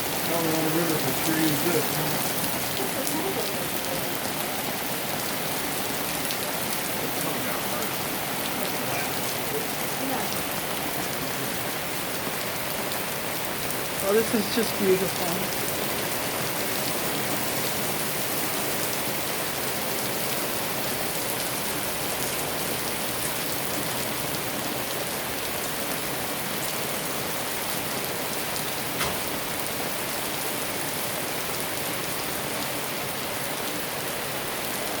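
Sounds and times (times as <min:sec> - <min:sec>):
rain pattering on surfaces: 0:00.0 - 0:35.0.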